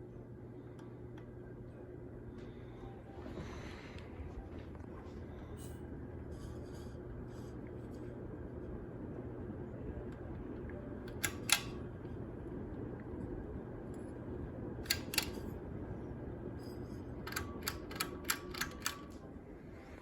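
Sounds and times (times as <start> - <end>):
ceiling fan motor humming: 0.0 - 20.0.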